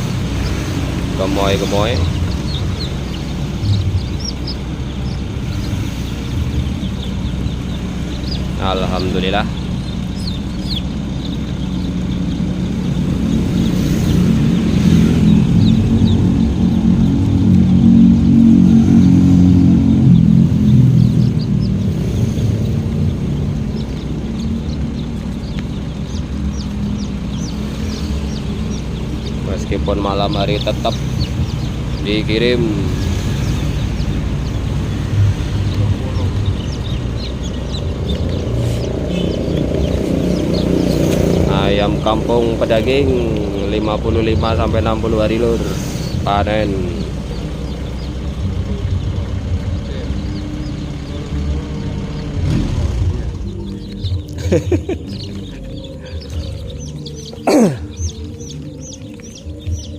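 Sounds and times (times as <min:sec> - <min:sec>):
chicks peeping: 0:00.0 - 0:59.9
vehicle engine running: 0:00.0 - 0:59.9.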